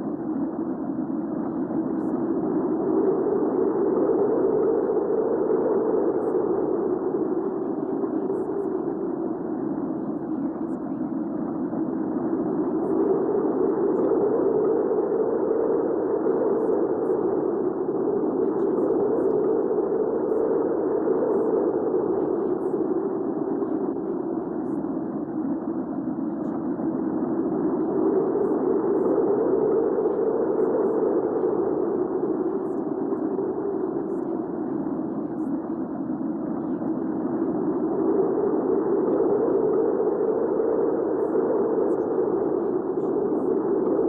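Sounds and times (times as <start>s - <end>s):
howling rushing wind: 0.0s - 10.2s, 11.1s - 44.0s.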